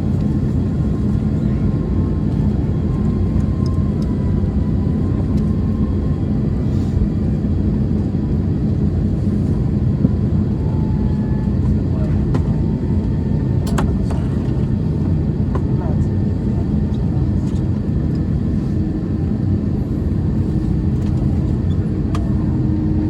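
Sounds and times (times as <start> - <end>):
airplane cabin rumble: 0.0 - 23.0.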